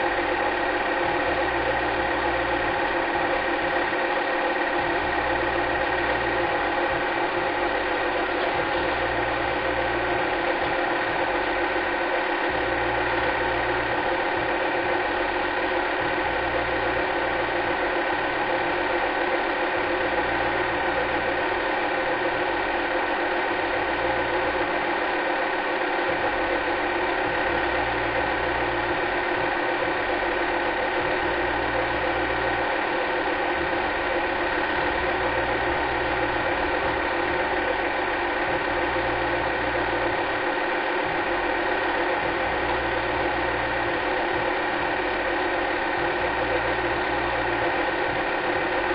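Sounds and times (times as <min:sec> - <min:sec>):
low throb: 0:00.0 - 0:25.1, 0:25.9 - 0:48.9
machine running steadily: 0:00.0 - 0:48.9.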